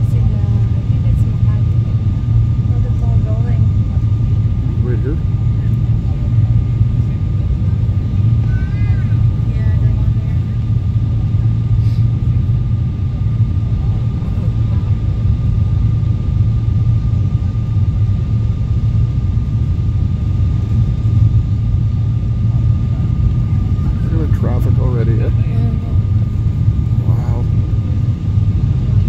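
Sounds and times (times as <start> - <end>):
low rumble of engines and airflow: 0.0 - 29.0.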